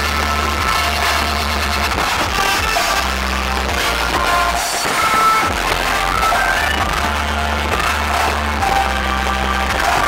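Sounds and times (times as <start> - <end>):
music with bass and steady beat: 0.0 - 10.0.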